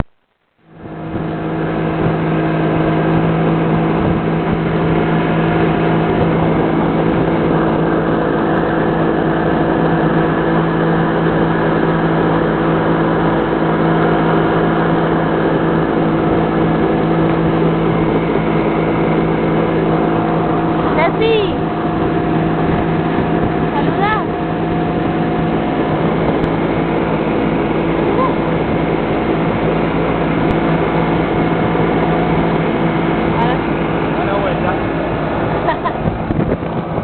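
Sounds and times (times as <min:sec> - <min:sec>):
motorboat engine droning: 0:00.0 - 0:37.0
water rushing: 0:00.8 - 0:37.0.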